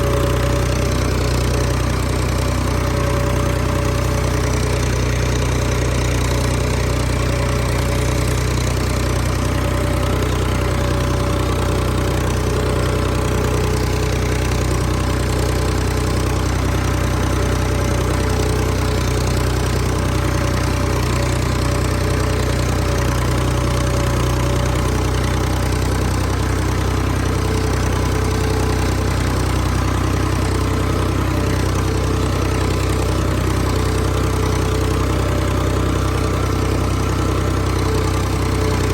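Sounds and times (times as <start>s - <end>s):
engine running steadily: 0.0s - 38.9s
machine scraping a field: 0.0s - 38.9s.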